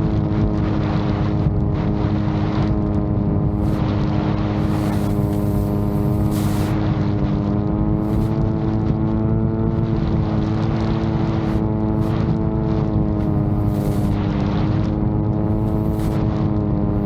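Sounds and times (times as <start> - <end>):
drone propellers humming: 0.0 - 17.0
rough low rumble: 0.0 - 17.0.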